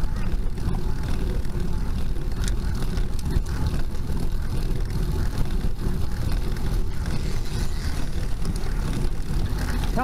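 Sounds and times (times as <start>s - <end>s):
bike tyre road noise: 0.0s - 10.0s.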